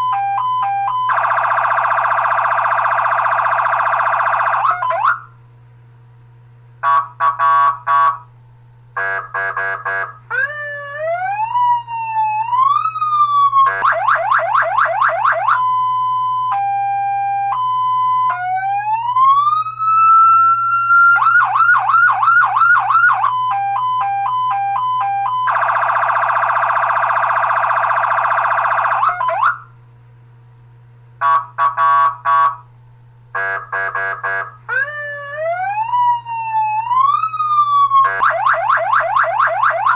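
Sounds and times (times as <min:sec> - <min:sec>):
electronic siren: 0:00.0 - 0:05.4, 0:09.0 - 0:29.7, 0:33.4 - 0:39.9
low steady hum: 0:00.0 - 0:39.9.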